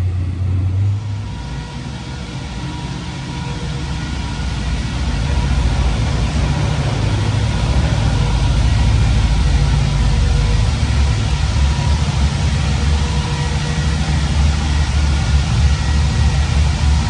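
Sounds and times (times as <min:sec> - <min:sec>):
car engine exhaust rumble: 0:00.0 - 0:17.0.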